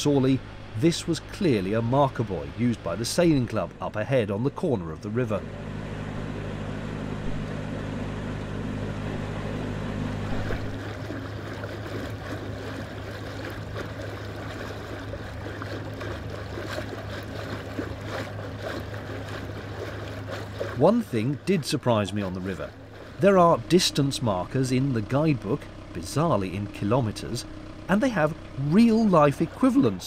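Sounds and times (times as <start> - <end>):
boat engine humming: 0.0 - 30.0
water noise: 0.0 - 30.0.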